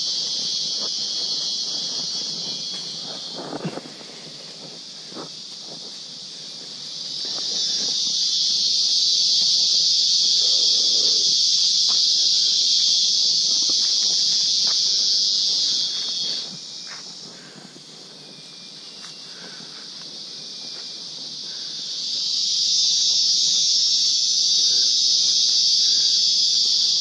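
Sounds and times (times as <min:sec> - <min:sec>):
cicada buzzing: 0:00.0 - 0:27.0.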